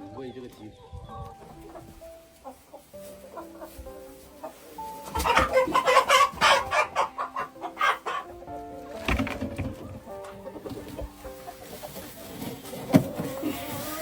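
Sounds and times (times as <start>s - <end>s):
quiet background music: 0.0s - 14.0s
chickens squawking and clucking: 0.1s - 14.0s.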